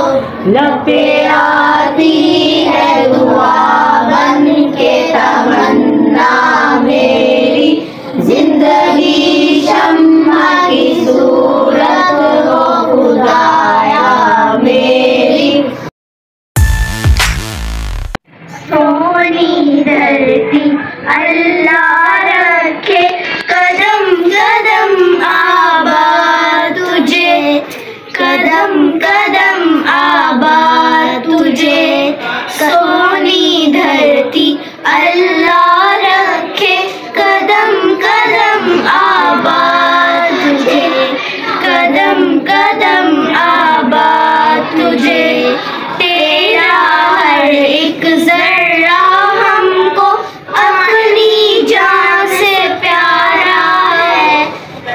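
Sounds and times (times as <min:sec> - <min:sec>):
children singing: 0:00.0 - 0:15.9, 0:18.8 - 0:54.6.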